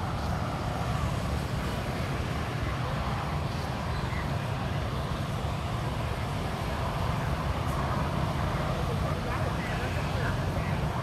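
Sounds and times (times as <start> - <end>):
faint street hum: 0.0 - 11.0.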